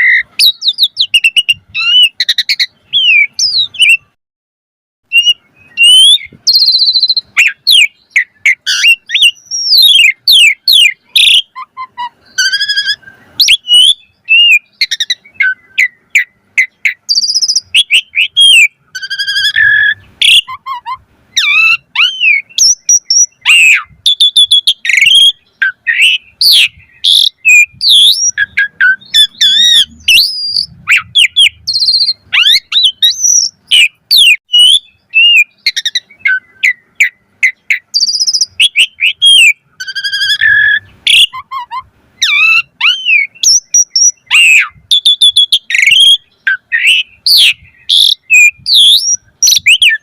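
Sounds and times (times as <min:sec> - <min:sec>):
starling singing: 0:00.0 - 0:04.2, 0:05.1 - 0:50.0.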